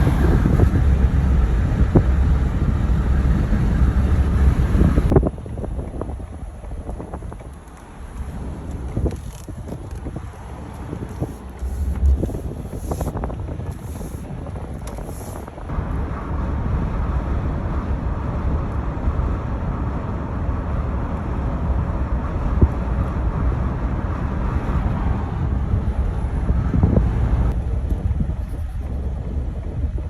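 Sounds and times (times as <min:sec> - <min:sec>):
vehicle road and engine noise: 0:00.0 - 0:30.0
wind buffeting microphone: 0:00.0 - 0:30.0.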